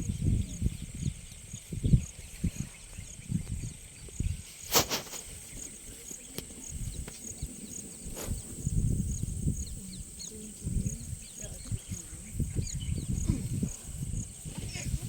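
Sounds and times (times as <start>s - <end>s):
insects droning: 0.0s - 15.0s
regular insect chirp: 0.0s - 15.0s
wind rumble on microphone: 0.0s - 15.0s.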